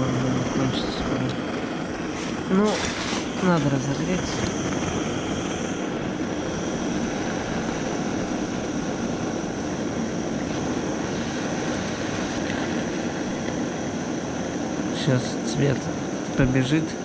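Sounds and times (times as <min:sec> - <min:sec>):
gas torch flame hissing: 0:00.0 - 0:17.0.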